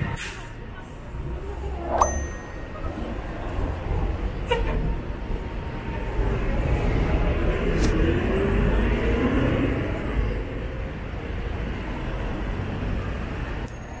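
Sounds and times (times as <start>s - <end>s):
bus engine accelerating: 0.0s - 14.0s.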